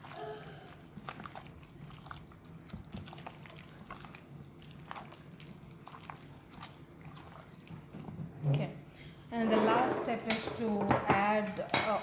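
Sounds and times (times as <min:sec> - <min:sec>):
wet squelches of mixing: 0:00.0 - 0:12.0.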